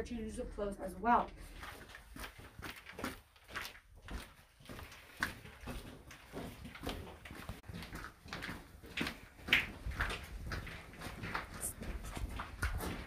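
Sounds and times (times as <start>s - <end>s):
footsteps on hard floor: 1.4s - 13.0s.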